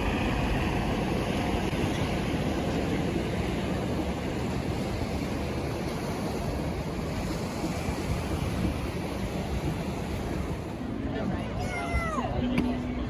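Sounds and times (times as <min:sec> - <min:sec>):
ocean surf washing on beach: 0:00.0 - 0:12.9.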